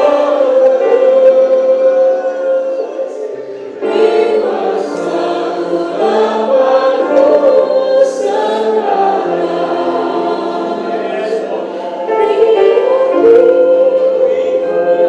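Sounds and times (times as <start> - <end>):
congregation singing: 0.0 - 15.0.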